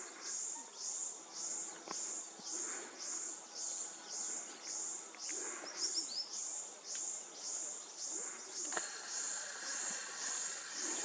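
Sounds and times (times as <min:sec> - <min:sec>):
insects buzzing rhythmically: 0:00.0 - 0:11.0.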